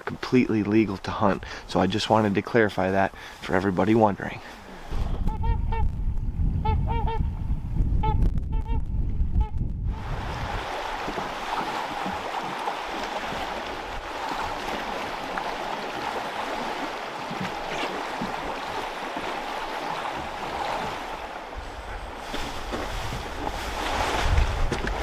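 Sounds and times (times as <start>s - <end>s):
wind and water rushing: 0.0s - 8.1s, 9.8s - 25.0s.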